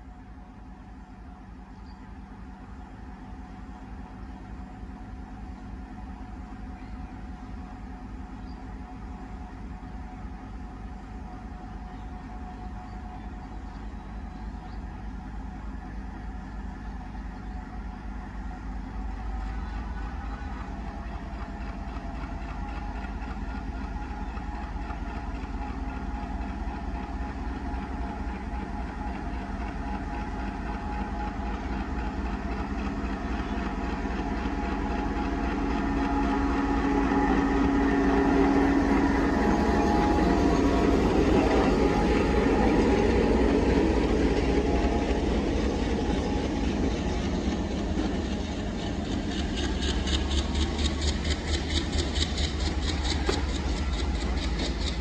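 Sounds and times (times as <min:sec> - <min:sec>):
diesel locomotive engine running: 0:00.0 - 0:55.0
train coaches rolling on rails: 0:00.0 - 0:55.0.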